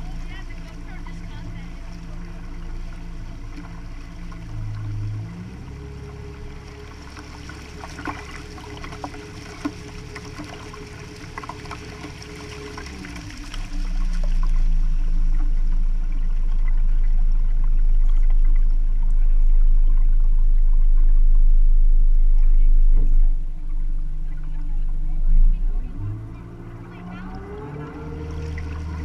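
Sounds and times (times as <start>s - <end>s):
loud low rumble: 0.0s - 29.0s
motorboat engine: 0.0s - 29.0s
water splashing along hull: 0.0s - 29.0s.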